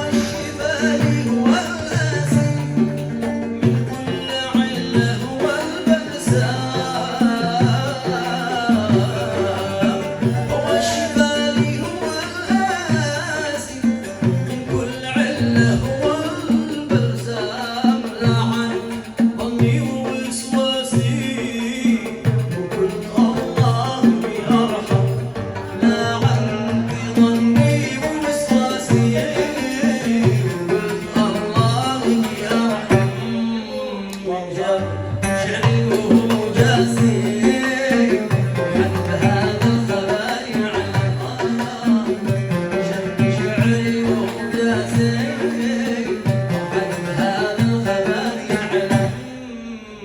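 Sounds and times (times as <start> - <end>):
drum and bass rhythm: 0.0 - 33.4, 35.6 - 49.3
plucked strings melody: 0.0 - 34.3, 35.1 - 49.3.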